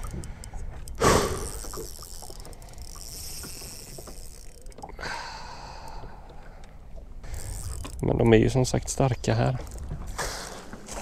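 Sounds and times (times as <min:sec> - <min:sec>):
fishing gear clicking and rattling: 0:00.0 - 0:11.0.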